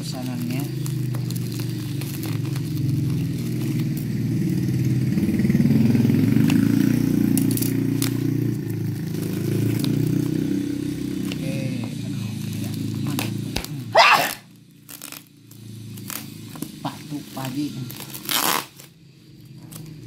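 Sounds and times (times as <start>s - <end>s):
low engine running: 0.0s - 18.2s
bubble wrap and tape crinkling: 0.0s - 20.0s.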